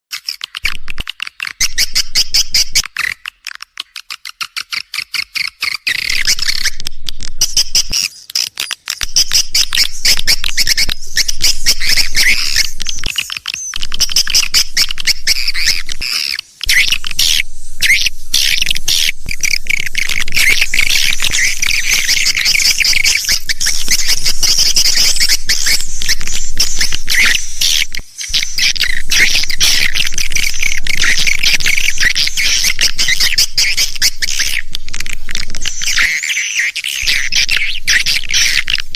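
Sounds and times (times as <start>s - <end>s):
rapid twittering bird chirps: 0.2s - 38.9s.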